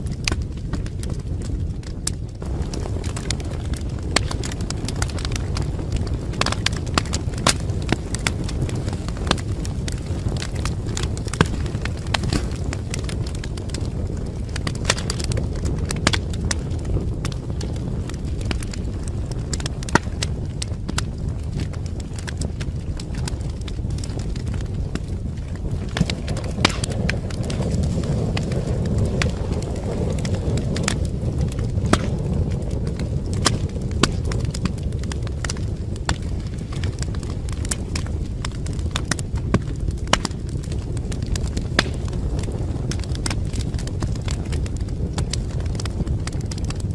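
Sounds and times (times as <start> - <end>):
fire crackling and popping: 0.0 - 46.9
low rumble of flames: 0.0 - 46.9.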